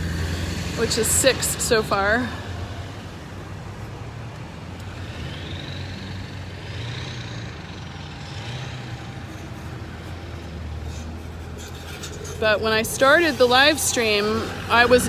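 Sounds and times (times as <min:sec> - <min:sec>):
vehicle high whine: 0:00.0 - 0:15.0
vehicles driving past: 0:00.0 - 0:15.0.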